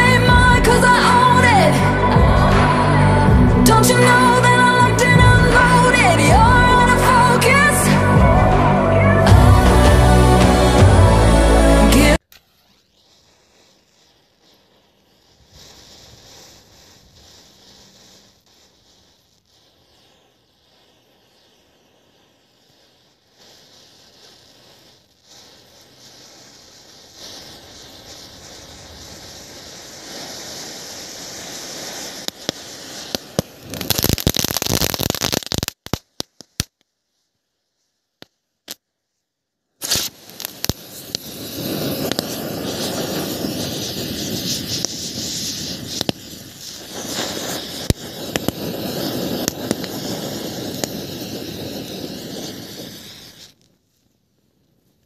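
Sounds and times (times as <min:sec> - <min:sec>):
firecracker cracks: 0:00.0 - 0:36.9, 0:38.2 - 0:38.9, 0:39.8 - 0:53.9
scattered pops: 0:00.0 - 0:36.9, 0:38.2 - 0:38.9, 0:39.8 - 0:54.2
firework fountain hissing: 0:00.0 - 0:38.8, 0:39.7 - 0:55.0
matchsticks burning with crackling hiss: 0:00.0 - 0:38.9, 0:39.8 - 0:55.0.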